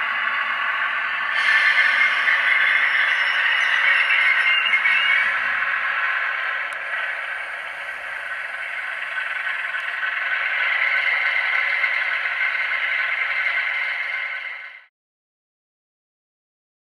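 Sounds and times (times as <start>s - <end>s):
diesel engine sound from small speaker: 0.0s - 14.9s.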